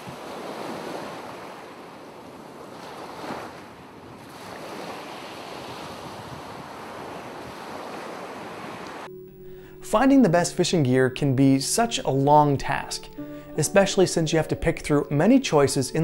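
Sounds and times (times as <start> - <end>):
ocean waves washing: 0.0 - 15.9.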